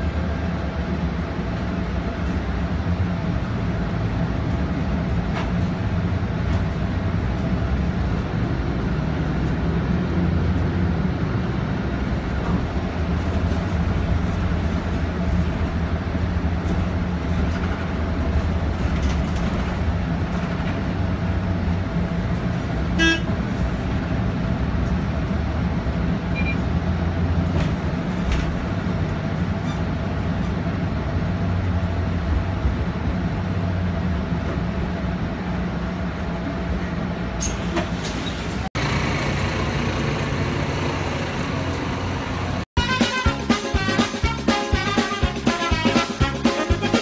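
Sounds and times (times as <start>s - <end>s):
bus engine drone: 0.0s - 47.0s
outdoor street traffic: 0.0s - 47.0s.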